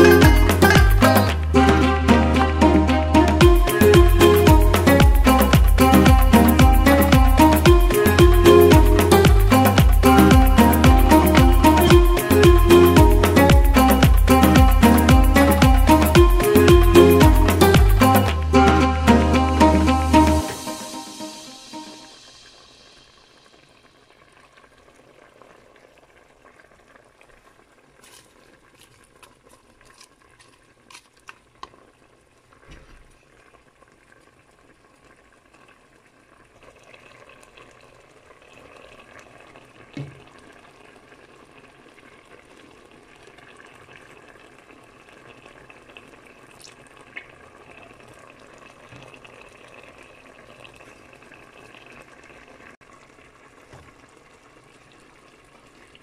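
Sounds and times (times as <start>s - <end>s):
pot bubbling: 0.0s - 56.0s.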